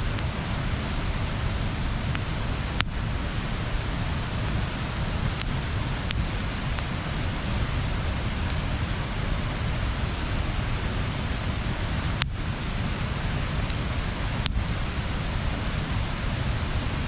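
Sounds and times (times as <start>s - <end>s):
fire crackling pops: 0.0s - 15.2s
bonfire rushing hiss: 0.0s - 17.0s.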